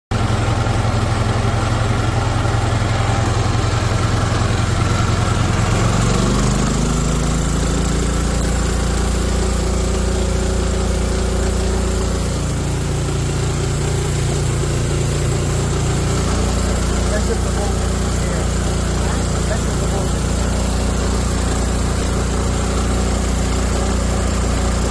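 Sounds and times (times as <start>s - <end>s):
generator engine running: 0.1s - 24.9s.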